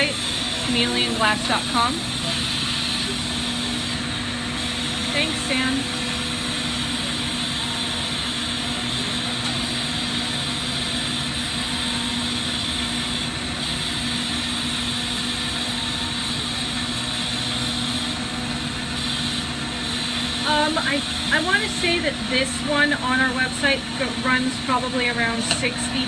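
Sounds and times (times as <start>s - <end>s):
torch flame roaring: 0.0s - 25.1s
constant low hum: 0.0s - 26.0s.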